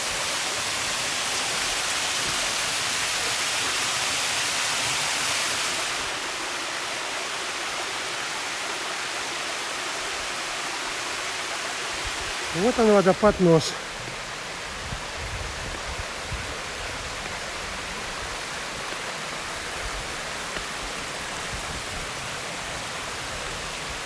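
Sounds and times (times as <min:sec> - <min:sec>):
waterfall pouring: 0:00.0 - 0:24.0.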